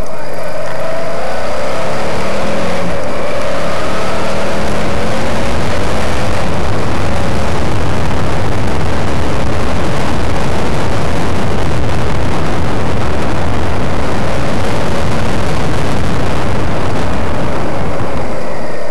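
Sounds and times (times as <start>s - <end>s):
wind buffeting microphone: 0.0s - 18.9s
motorcycle engine running: 0.6s - 18.9s.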